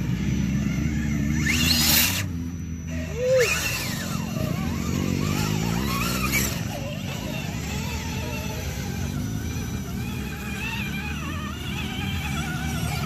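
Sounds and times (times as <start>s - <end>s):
steady low hum: 0.0s - 13.0s
toy truck motors whining: 0.0s - 13.0s.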